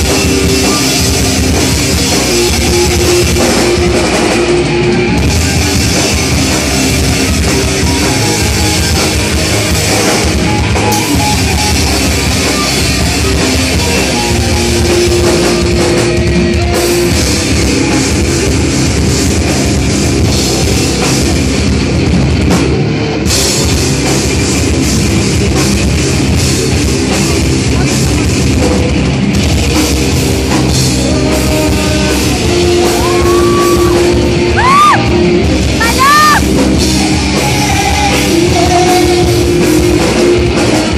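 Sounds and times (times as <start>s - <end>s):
heavy rock band playing: 0.0s - 40.9s.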